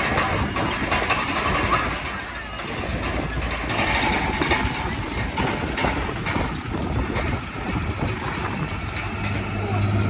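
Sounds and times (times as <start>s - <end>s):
scattered knocks: 0.0s - 9.5s
heavy machinery diesel engines: 0.0s - 10.0s
low engine hum: 0.0s - 10.0s.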